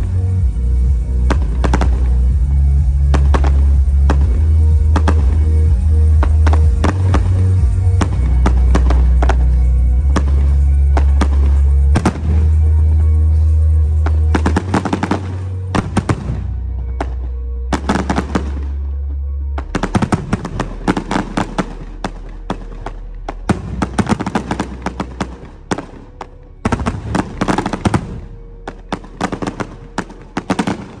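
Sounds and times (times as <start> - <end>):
fireworks crackling: 0.0 - 31.0
music with low bass notes: 0.0 - 31.0.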